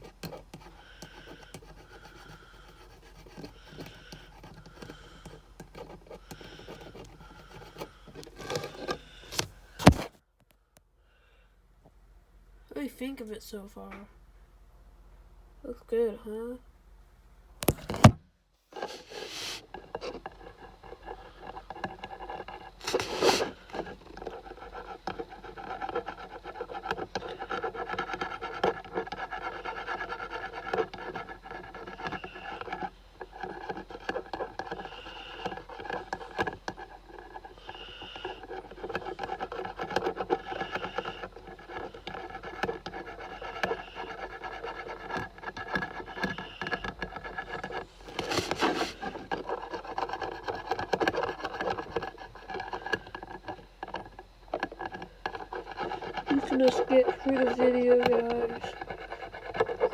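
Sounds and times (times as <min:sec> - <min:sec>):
marker scratching on badge: 0:00.0 - 0:10.0, 0:18.8 - 0:59.9.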